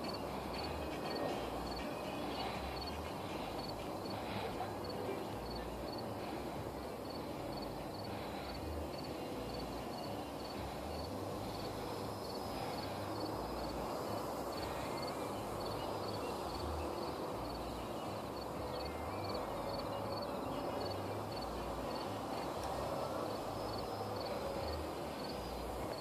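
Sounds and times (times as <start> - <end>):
steady outdoor noise: 0.0 - 26.0.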